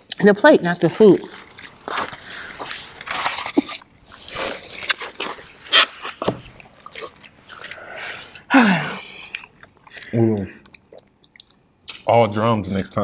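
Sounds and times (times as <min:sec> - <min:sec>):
wet chewing and sucking: 0:01.0 - 0:12.1.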